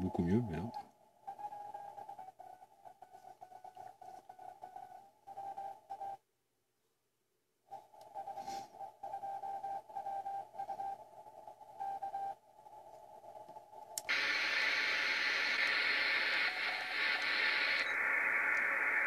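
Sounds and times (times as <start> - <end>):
radio static hiss: 0.0 - 5.6, 7.7 - 19.0.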